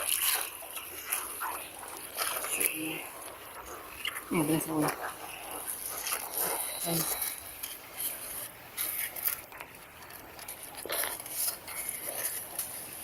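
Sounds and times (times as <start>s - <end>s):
hard objects scraping and clinking: 0.0s - 13.0s.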